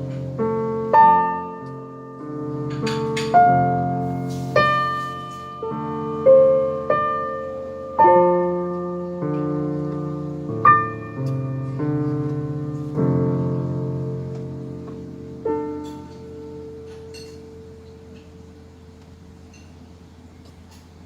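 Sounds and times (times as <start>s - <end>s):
piano duet slow chords: 0.0s - 20.7s.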